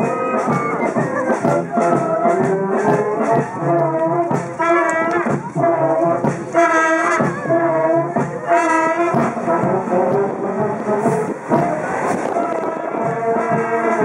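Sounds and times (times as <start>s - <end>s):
brass marching band playing: 0.0s - 14.0s.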